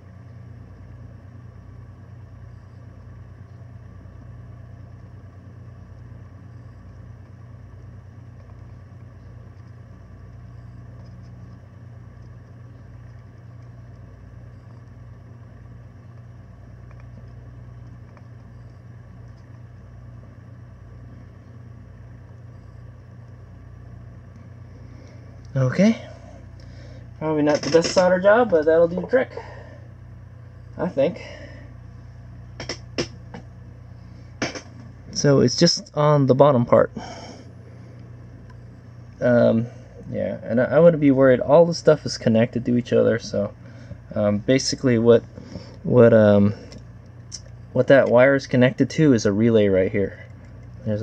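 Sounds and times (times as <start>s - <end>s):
faint steady tones: 0.0s - 51.0s
steady low hum: 0.0s - 51.0s.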